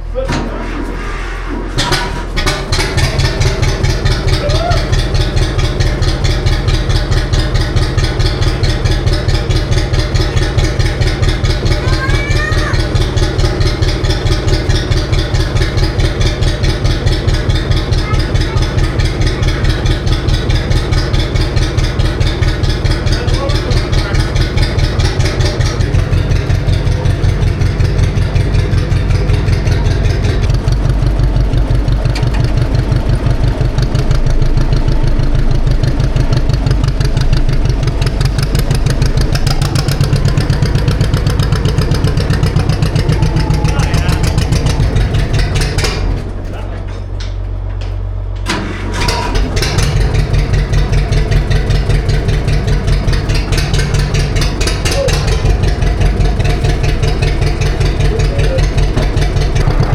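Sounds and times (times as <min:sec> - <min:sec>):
tractor engine idling: 0:01.7 - 0:59.9.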